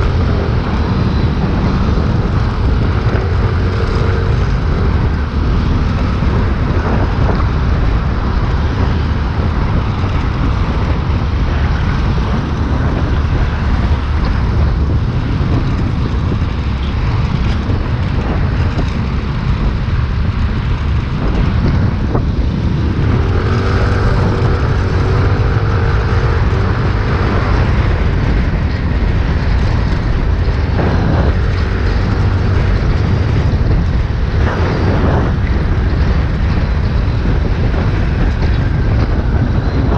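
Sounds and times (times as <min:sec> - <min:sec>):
scooter engine and tyre noise: 0:00.0 - 0:39.9
wind rushing on microphone: 0:00.0 - 0:39.9.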